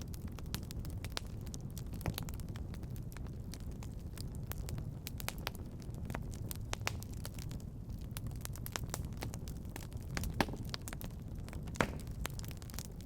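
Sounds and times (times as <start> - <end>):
fire crackling and popping: 0.0 - 13.0
fireplace flames rumbling: 0.0 - 13.0.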